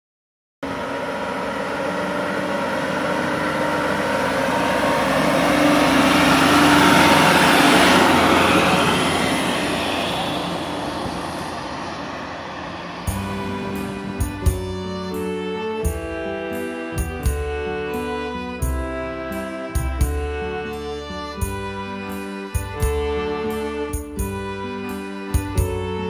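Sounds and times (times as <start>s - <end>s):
road train engine passing: 0.6s - 26.0s.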